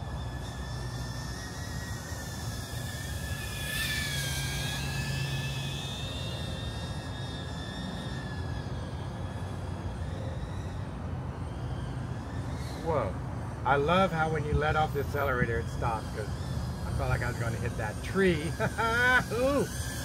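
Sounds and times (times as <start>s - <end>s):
drone propellers whining: 0.0s - 20.0s
low steady rumble: 0.0s - 20.0s.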